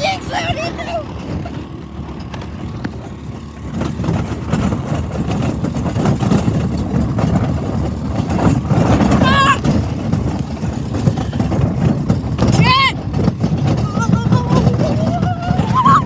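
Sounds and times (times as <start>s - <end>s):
four-wheeler engine rumbling: 0.0s - 16.0s.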